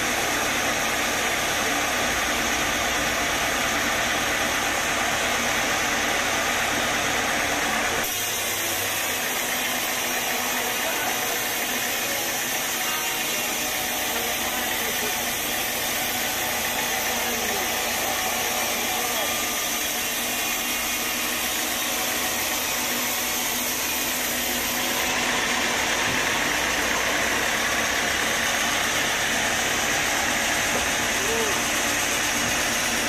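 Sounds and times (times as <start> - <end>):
band saw cutting log: 0.0 - 33.0.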